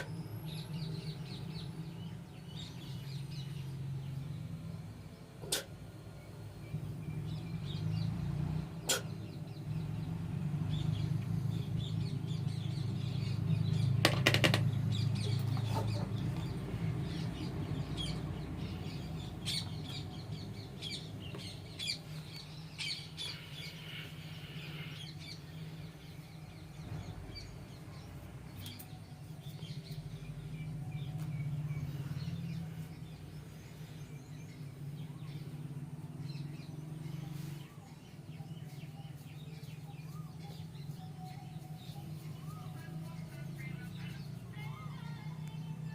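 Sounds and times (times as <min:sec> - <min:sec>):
birds chirping: 0:00.0 - 0:45.9
steady low hum: 0:00.0 - 0:45.9.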